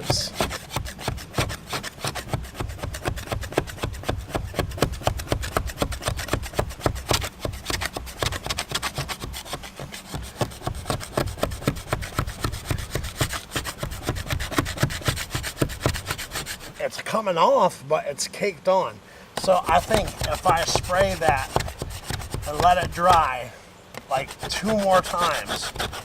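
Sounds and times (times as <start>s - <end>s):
metal scraper scraping adhesive: 0.0s - 16.8s, 19.4s - 23.4s, 24.1s - 26.0s.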